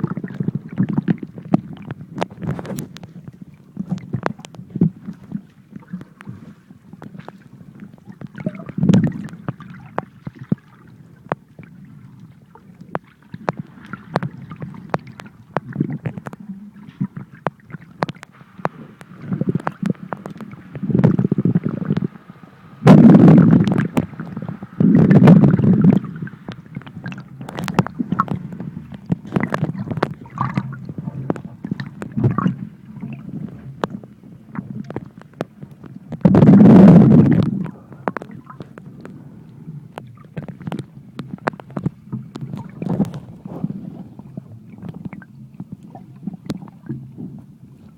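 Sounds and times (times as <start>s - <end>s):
underwater sloshing rumble: 0.0s - 47.9s.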